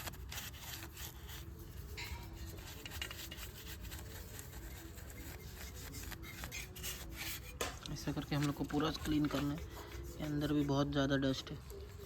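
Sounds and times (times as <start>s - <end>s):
brush scrubbing engine casing: 0.0s - 12.0s.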